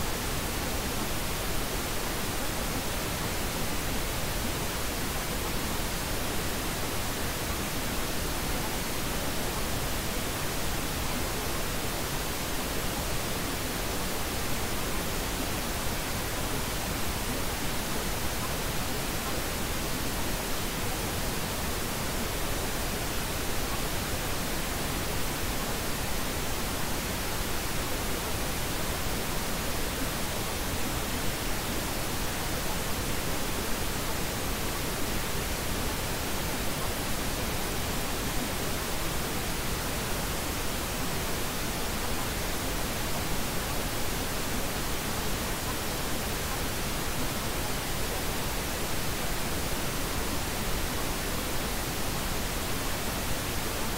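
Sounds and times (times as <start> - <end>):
steady pink noise hiss: 0.0 - 53.9.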